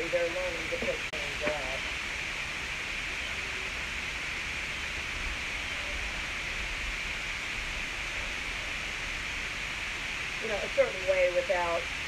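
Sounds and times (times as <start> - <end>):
high steady hiss: 0.0 - 12.0.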